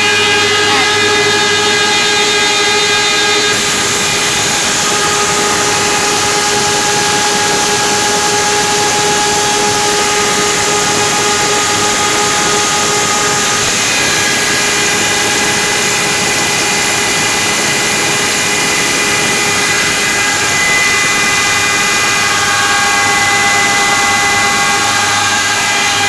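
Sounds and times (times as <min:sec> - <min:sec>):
wood moulder running: 0:00.0 - 0:26.0.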